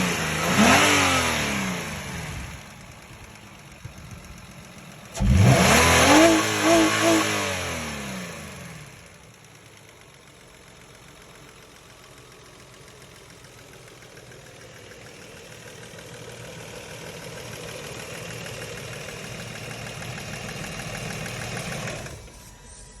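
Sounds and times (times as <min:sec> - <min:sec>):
car engine revving: 0:00.0 - 0:09.4, 0:11.2 - 0:22.5.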